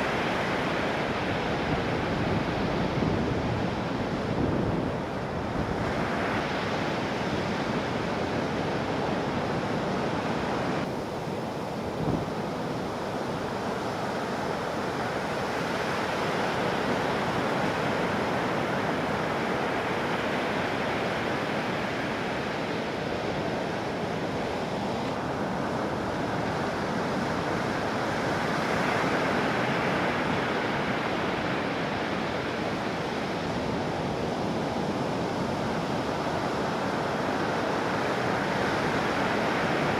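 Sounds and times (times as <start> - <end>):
ocean waves breaking: 0.0 - 39.9
wind on microphone: 0.0 - 39.9.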